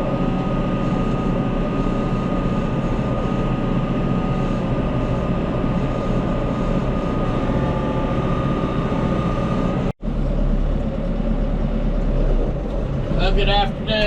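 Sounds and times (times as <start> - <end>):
deep engine rumble: 0.0 - 14.0
faint whine: 0.0 - 14.0
tractor engine running: 0.0 - 14.0.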